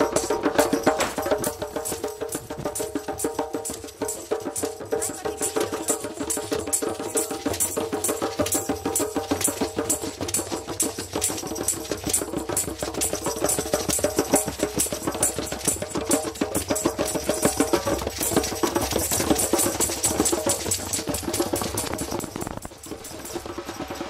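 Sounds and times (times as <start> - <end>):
hand drums playing: 0.0 - 24.0
jingling percussion: 0.0 - 24.0.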